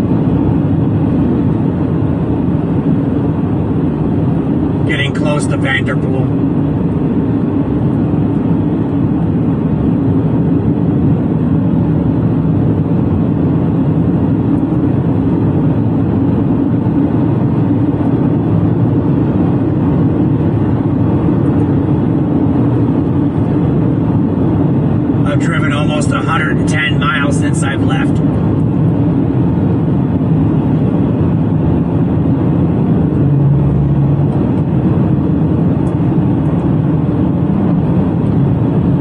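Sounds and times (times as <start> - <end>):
car interior road rumble: 0.0 - 39.0.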